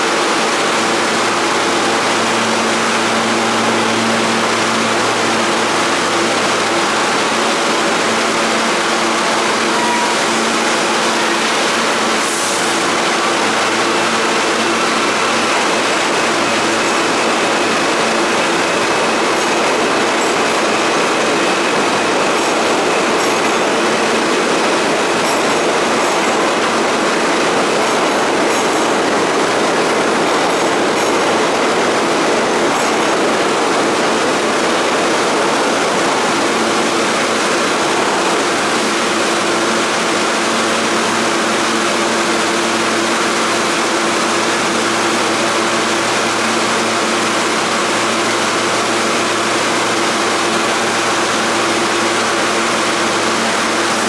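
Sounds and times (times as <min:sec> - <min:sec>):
subway train air conditioning drone: 0:00.0 - 0:54.0.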